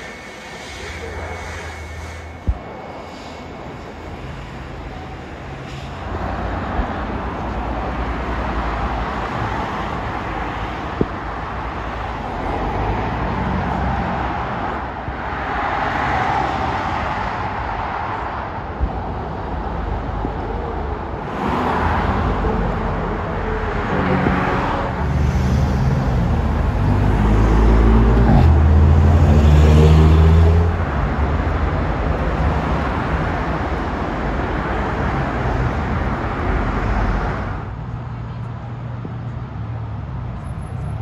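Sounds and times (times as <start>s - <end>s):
street traffic noise: 0.0s - 41.0s.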